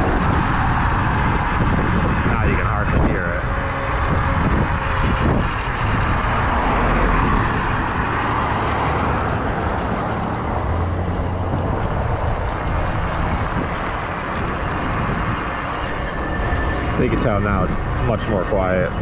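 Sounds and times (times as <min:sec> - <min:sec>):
motor gear whine: 0:00.0 - 0:19.0
riding noise rush: 0:00.0 - 0:19.0.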